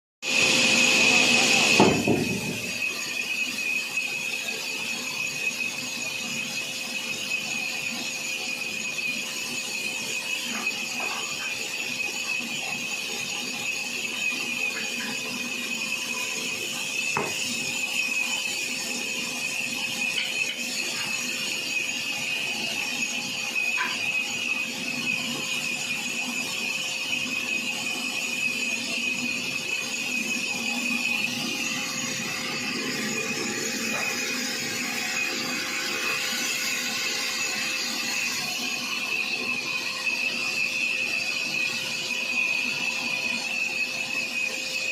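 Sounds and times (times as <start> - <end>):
saw whining: 0.2 - 44.9
mechanical hum: 0.3 - 44.9.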